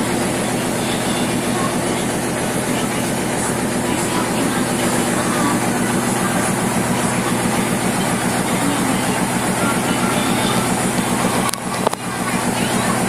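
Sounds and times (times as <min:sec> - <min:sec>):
rice husking machine clattering: 0:00.0 - 0:13.0.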